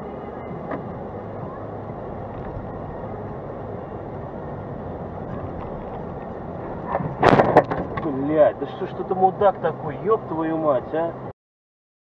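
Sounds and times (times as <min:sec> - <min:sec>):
car engine and road noise: 0:00.0 - 0:11.3.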